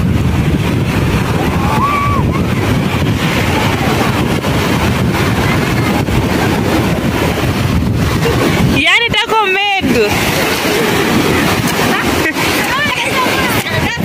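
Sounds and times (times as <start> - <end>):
surf breaking on shore: 0.0 - 14.0
wind rumble on microphone: 0.0 - 14.0.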